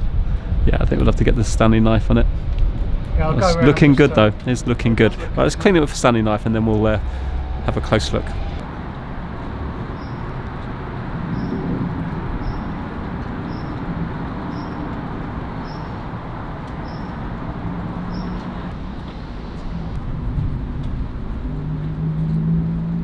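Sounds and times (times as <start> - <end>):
rushing background noise: 0.0 - 23.0.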